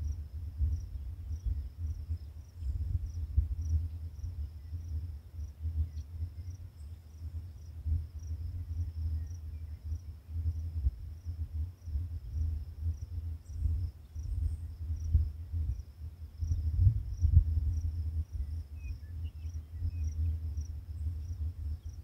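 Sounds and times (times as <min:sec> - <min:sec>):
insects trilling: 0:00.0 - 0:22.0
wind buffeting microphone: 0:00.0 - 0:22.0.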